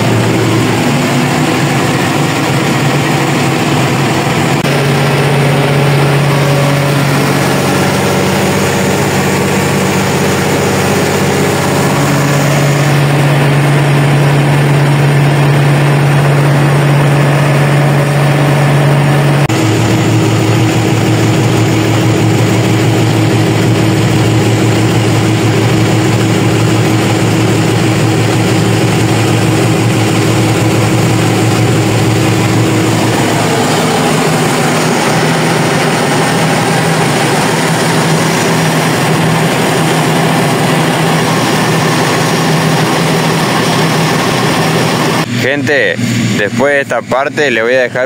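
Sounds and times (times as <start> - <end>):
steady hum: 0.0 - 48.0
tractor engine drone: 0.0 - 48.0.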